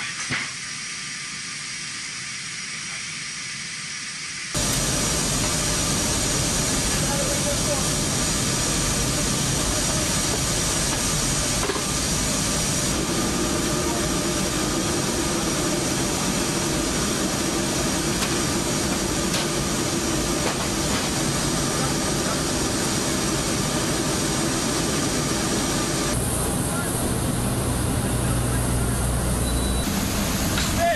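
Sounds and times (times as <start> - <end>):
aircraft engine roar with whine: 0.0 - 30.9.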